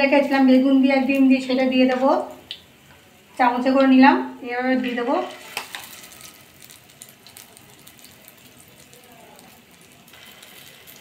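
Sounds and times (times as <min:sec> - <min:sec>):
oil sizzling with crackling pops: 0:00.0 - 0:04.0, 0:04.6 - 0:11.0.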